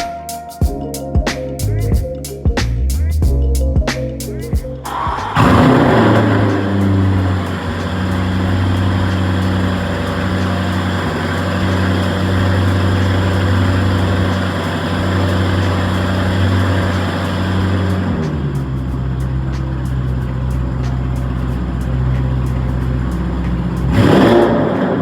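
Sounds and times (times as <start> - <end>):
car engine idling: 4.8 - 25.0.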